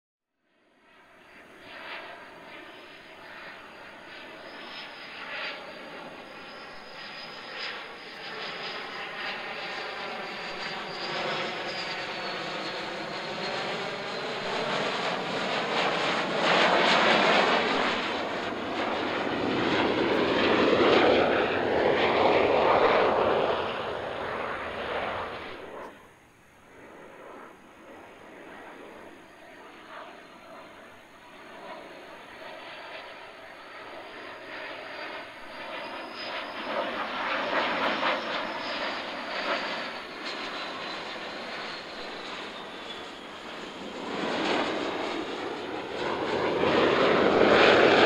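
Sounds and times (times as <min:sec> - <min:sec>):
high-pitched jet whine: 0:01.0 - 0:48.0
jet engines roaring: 0:01.1 - 0:48.0.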